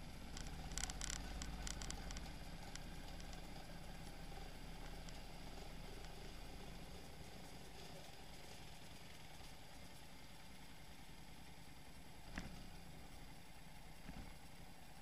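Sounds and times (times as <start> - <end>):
quad bike engines idling: 0.0 - 15.0.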